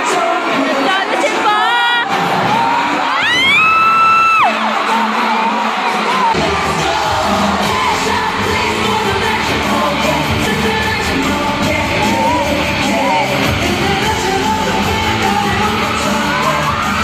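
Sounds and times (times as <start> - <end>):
person singing into a microphone: 0.0 - 2.1, 4.2 - 17.0
fans yelling and whooping: 0.0 - 17.0
loud amplified pop music: 0.0 - 17.0.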